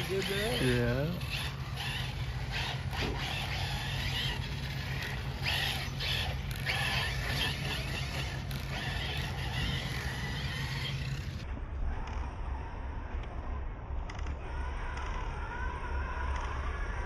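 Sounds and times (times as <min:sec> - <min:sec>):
rc truck motors whining: 0:00.0 - 0:17.0
steady low hum: 0:00.0 - 0:17.0.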